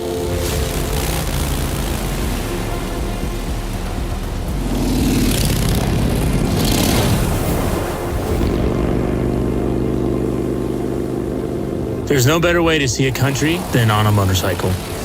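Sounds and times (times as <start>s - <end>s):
motorcycle engines passing by: 0.0s - 15.0s.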